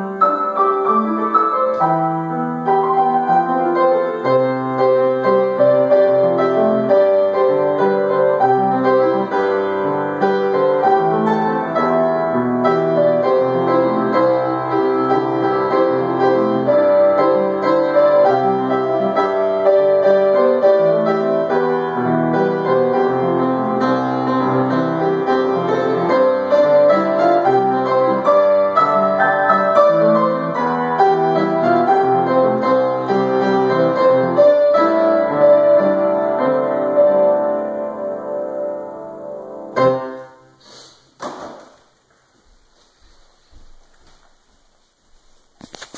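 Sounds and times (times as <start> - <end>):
solo piano: 0.0 - 40.8.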